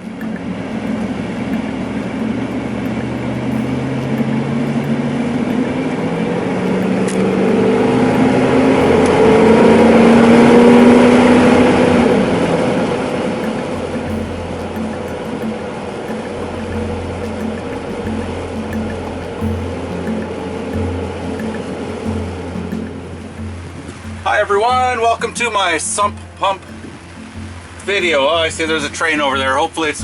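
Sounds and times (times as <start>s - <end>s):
train passing: 0.0s - 29.4s.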